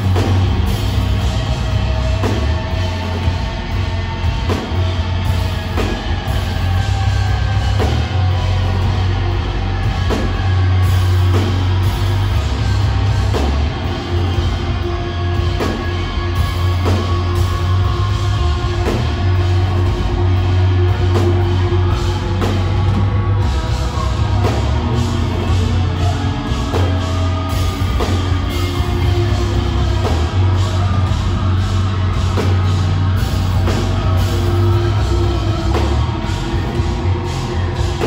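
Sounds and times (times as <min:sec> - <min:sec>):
bass: 0:00.0 - 0:38.0
distorted electric guitars: 0:00.0 - 0:38.0
drum kit: 0:00.0 - 0:38.0.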